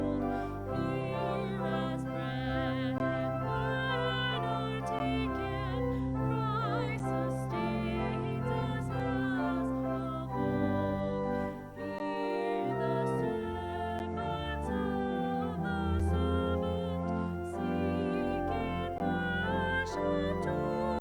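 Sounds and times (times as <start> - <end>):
person singing with vibrato: 0.0 - 21.0
sustained accompanying chords: 0.0 - 21.0.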